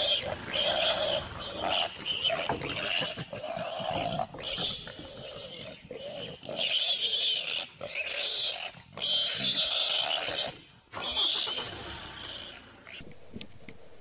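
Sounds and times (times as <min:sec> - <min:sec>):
harsh animal cries: 0:00.0 - 0:13.0.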